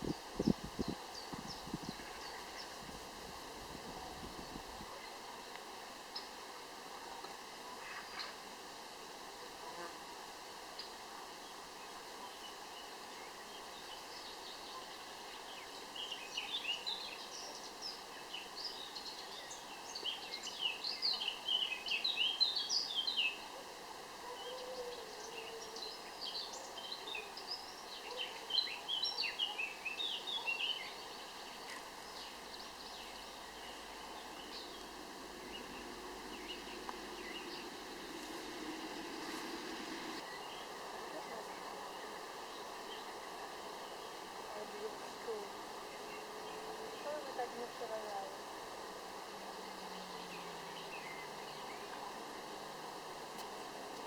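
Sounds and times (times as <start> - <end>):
songbird chirping: 0.0 - 8.4, 10.7 - 54.0
faint background hiss: 0.0 - 54.0.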